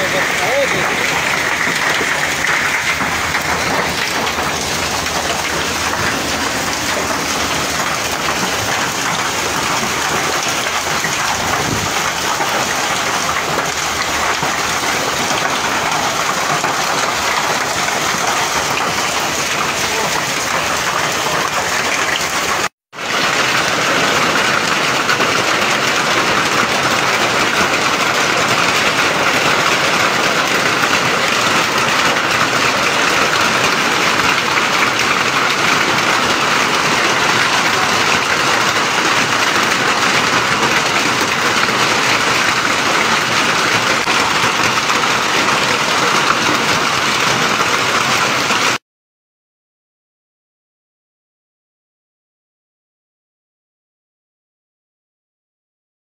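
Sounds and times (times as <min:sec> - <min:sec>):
hail and rain on pavement: 0:00.0 - 0:48.8.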